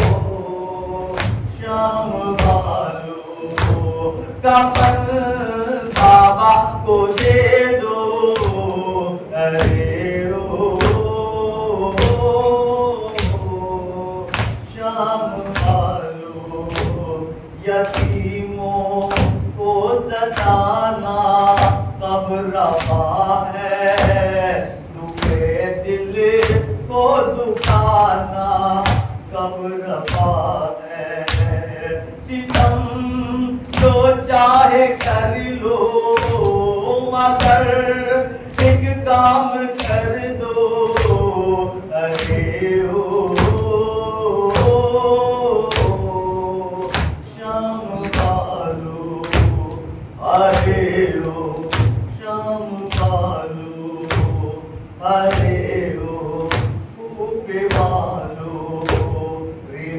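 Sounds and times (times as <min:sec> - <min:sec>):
man singing a lament: 0:00.0 - 0:59.9
voices chanting: 0:00.0 - 0:59.9.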